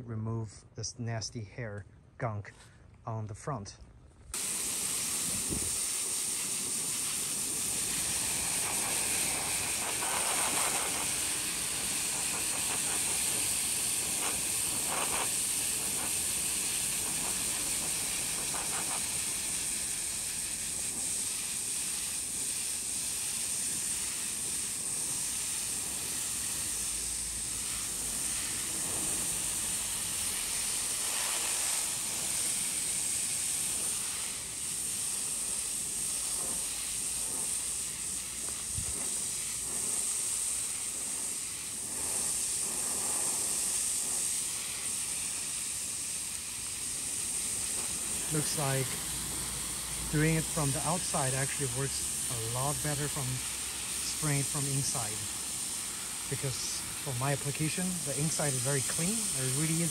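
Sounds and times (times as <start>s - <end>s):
hose water spraying: 4.3s - 59.9s.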